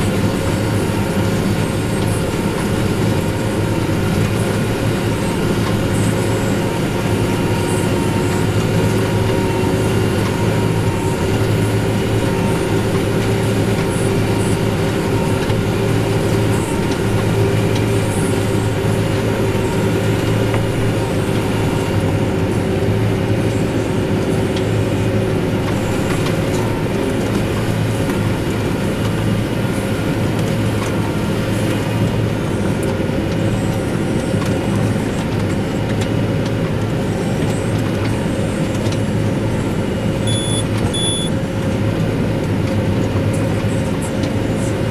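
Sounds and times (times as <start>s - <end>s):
steady machinery whine: 0.0s - 44.9s.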